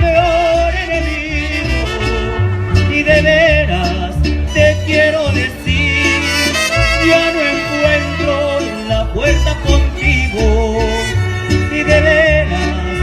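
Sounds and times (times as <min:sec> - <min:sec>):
low bass notes: 0:00.0 - 0:13.0
violins with vibrato: 0:00.8 - 0:13.0.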